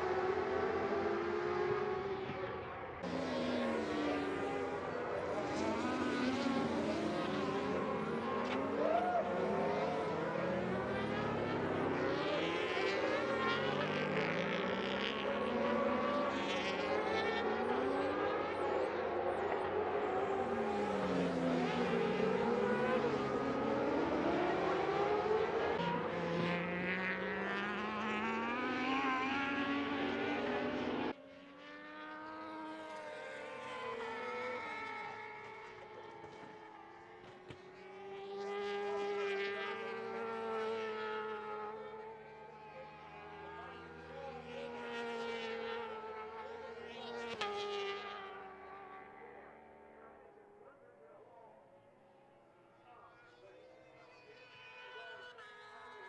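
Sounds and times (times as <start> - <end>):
motorcycle engines at high revs: 0.0 - 50.1.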